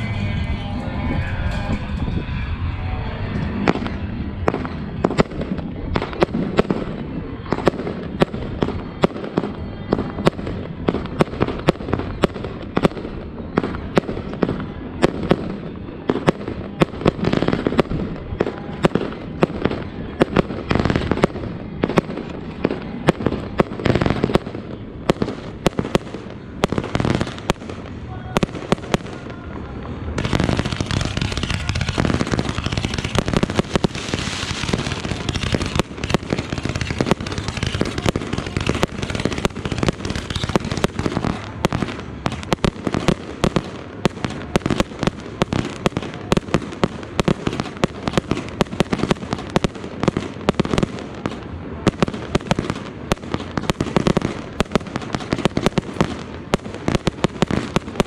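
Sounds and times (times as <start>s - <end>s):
fireworks bangs and crackle: 0.0s - 58.0s.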